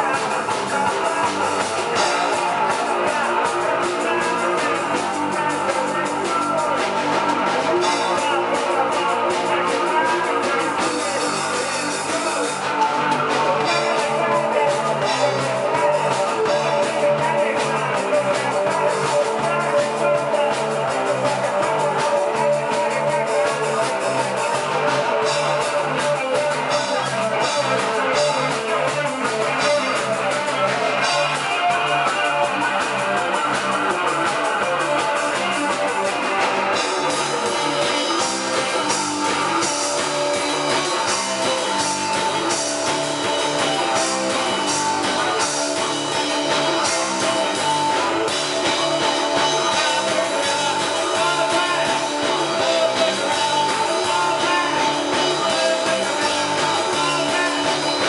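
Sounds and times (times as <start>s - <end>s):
bass guitar: 0.0s - 58.0s
drum kit with cymbals: 0.0s - 58.0s
electric guitar: 0.0s - 58.0s.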